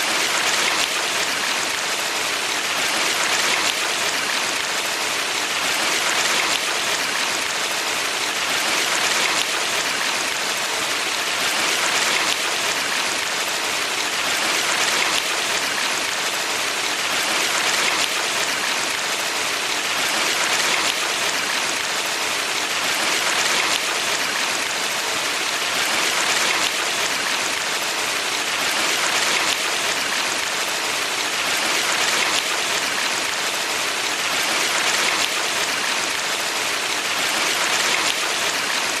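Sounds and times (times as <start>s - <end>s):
stream water running: 0.0s - 39.0s.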